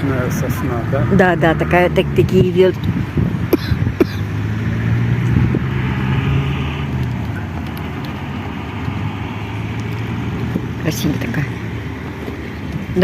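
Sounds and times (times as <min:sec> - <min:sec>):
road and wind noise: 0:00.0 - 0:13.0
vehicle low hum: 0:00.0 - 0:13.0.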